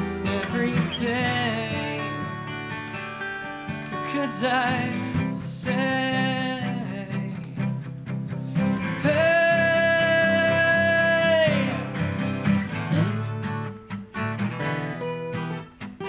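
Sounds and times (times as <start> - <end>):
acoustic guitars playing: 0.0 - 16.0.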